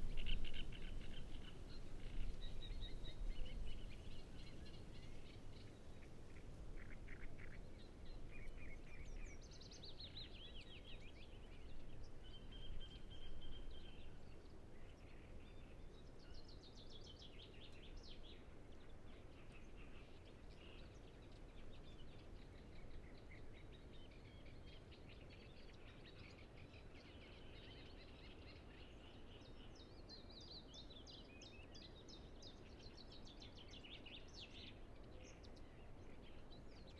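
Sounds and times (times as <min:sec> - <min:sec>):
songbirds singing faintly: 0:00.0 - 0:36.9.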